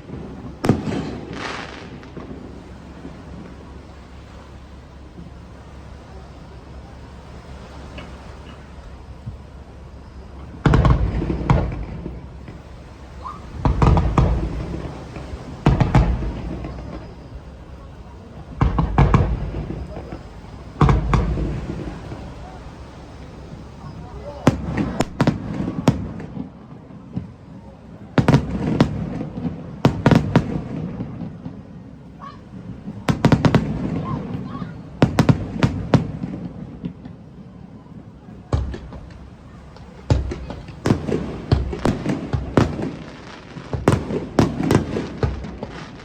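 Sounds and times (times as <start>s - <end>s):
fireworks booming: 0.0s - 46.0s.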